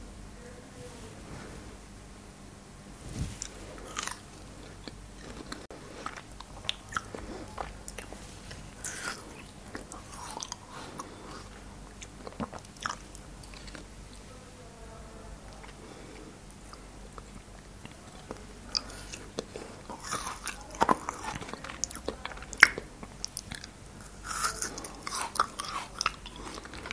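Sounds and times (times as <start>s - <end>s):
chewing frozen cherries: 3.3s - 14.3s, 15.5s - 26.9s.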